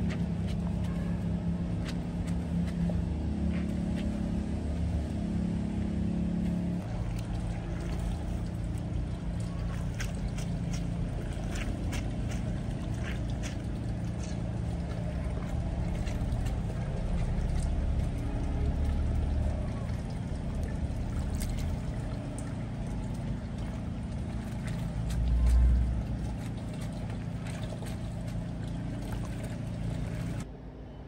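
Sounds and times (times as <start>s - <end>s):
small splashes and squelches: 0.0s - 30.5s
wet clothes rubbed in water: 0.0s - 30.5s
steady low hum: 0.0s - 31.0s.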